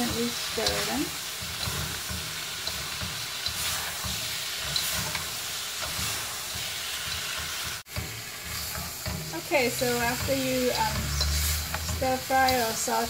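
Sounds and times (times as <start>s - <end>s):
spatula scraping and knocking pan: 0.0s - 13.0s
vegetables sizzling in a wok: 0.0s - 13.0s.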